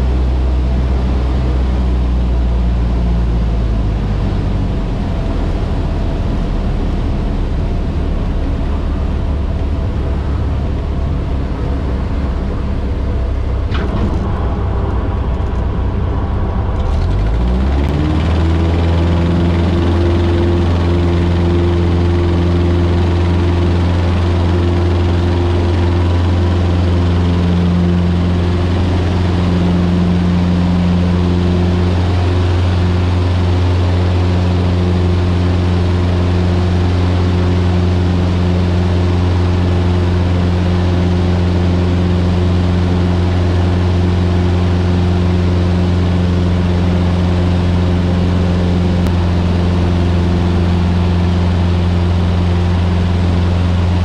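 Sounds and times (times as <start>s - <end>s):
small plane engine droning: 0.0s - 54.0s.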